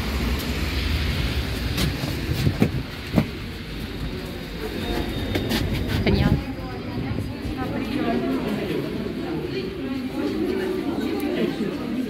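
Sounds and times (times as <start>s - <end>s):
low street rumble: 0.0s - 12.0s
coats rustling in a crowd: 1.5s - 12.0s.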